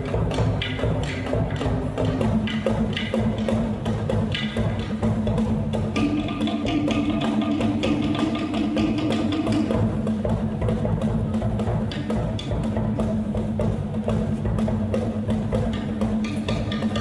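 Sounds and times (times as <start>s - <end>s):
percussion knocks and taps: 0.0s - 17.0s.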